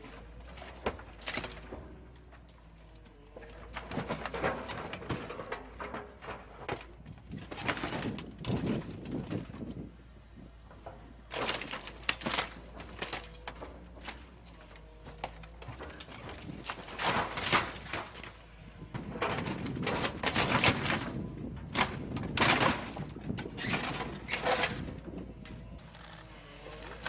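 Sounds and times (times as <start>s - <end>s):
metal crunching and cracking: 0.0s - 9.9s, 10.6s - 27.0s.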